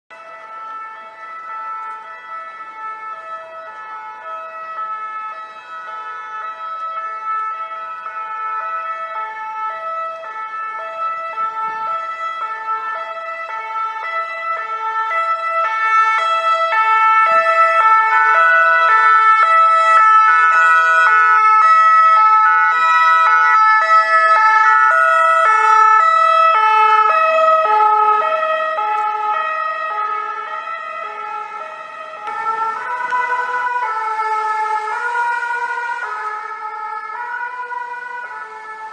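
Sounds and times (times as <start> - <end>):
two-tone sirens: 0.1 - 38.9.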